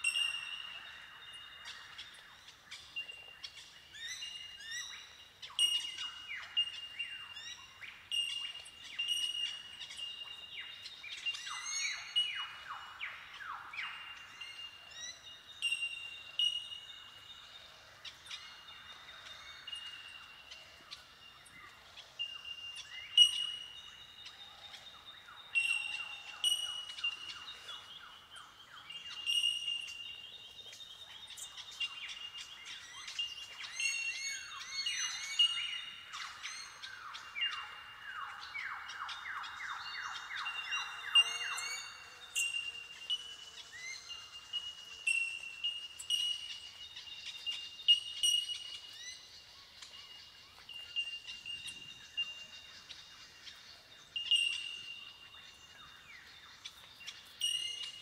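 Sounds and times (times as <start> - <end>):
birds calling bell-like notes: 0.0 - 58.0.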